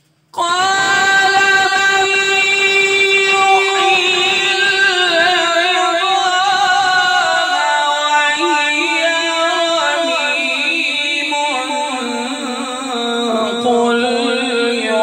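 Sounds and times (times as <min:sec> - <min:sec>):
man reciting melodically: 0:00.4 - 0:15.0.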